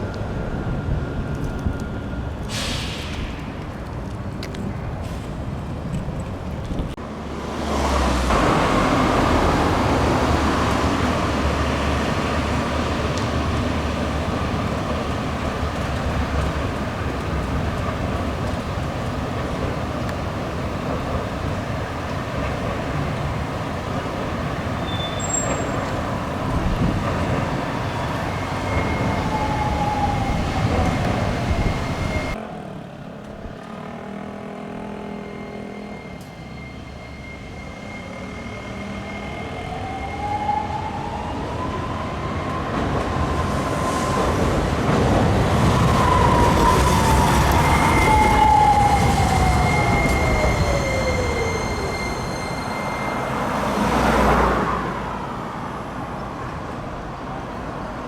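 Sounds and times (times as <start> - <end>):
wheels rumbling on rail: 0.0 - 58.0
tram motor whine: 7.0 - 34.0, 34.8 - 57.5.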